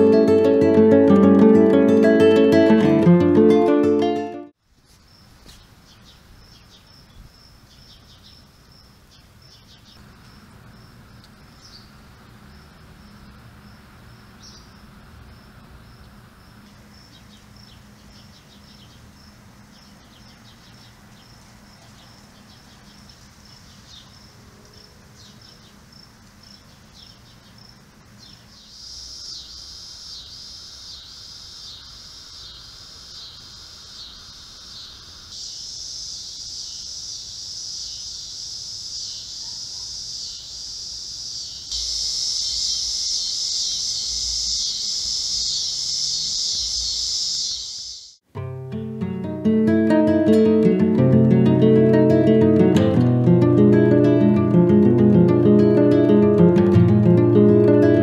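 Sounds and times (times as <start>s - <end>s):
insects chirping: 0.0s - 48.3s, 48.9s - 58.0s.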